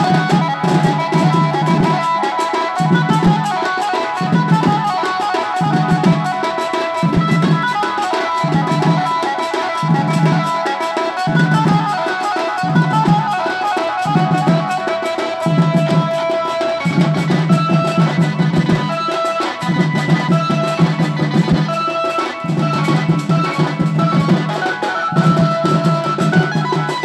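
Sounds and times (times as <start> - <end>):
drums beating: 0.0 - 27.0
folk melody line: 0.0 - 27.0.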